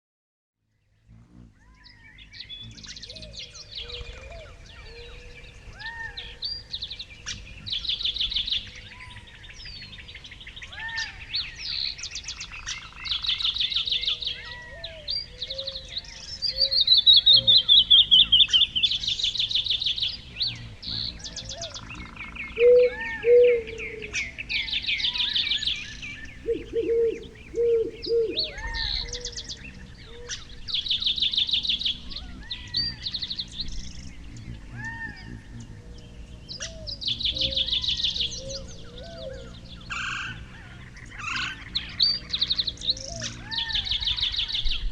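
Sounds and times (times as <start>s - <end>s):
songbirds singing and chirping: 0.8s - 44.9s.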